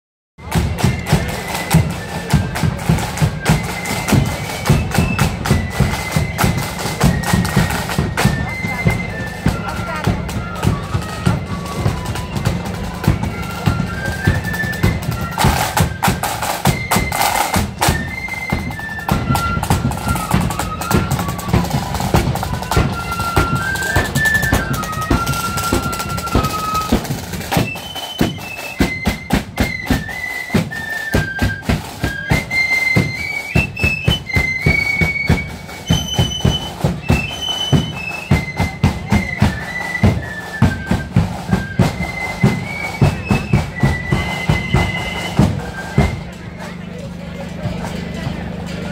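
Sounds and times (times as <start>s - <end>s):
flutes playing melody: 0.4s - 48.5s
drums beating march rhythm: 0.4s - 48.9s.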